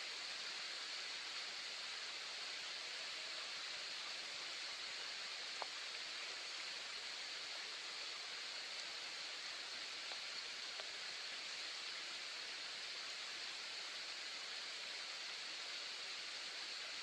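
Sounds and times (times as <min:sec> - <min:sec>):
soft steady rain: 0:00.0 - 0:17.0.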